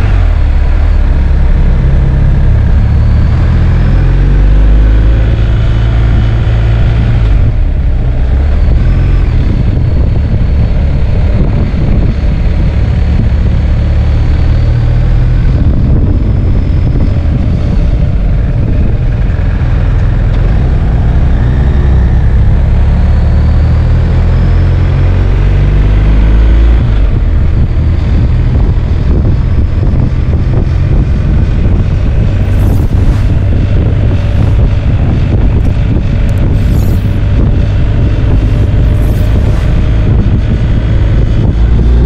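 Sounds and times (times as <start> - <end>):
motorcycle engine running: 0.0 - 42.0
wind rumble on microphone: 0.0 - 42.0.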